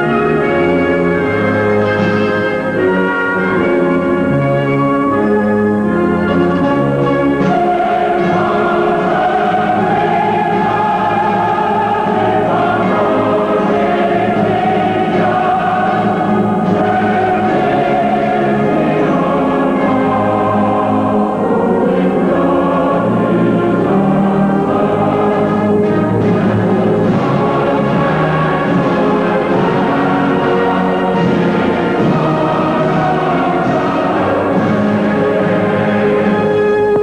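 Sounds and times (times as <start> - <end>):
choir singing held chords: 0.0 - 37.0
orchestral music: 0.0 - 37.0.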